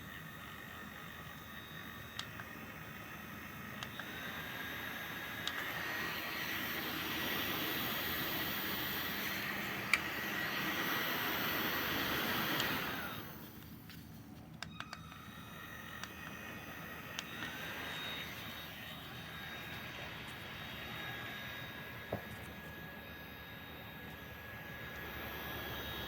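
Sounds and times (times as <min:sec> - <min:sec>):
small fan motor whirring: 0:00.0 - 0:26.0.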